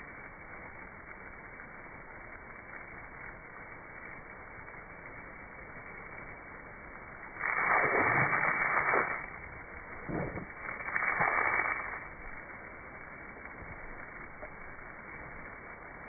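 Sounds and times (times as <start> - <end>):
hose water spraying and splashing: 0.0 - 16.0
low steady hiss: 0.0 - 16.0.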